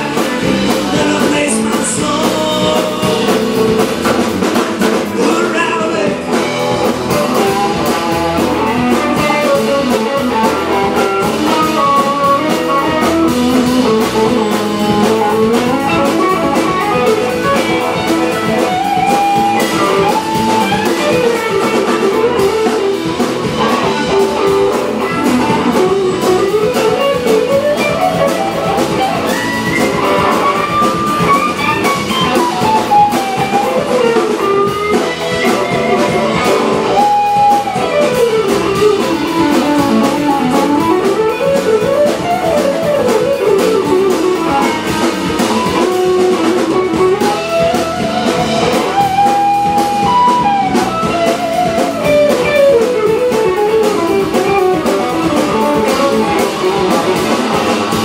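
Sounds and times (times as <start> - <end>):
bluesy guitar instrumental: 0.0 - 58.0.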